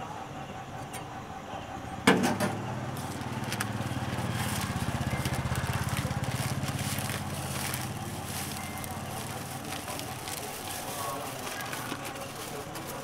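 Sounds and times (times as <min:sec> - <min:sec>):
small engine running: 0:02.5 - 0:13.0.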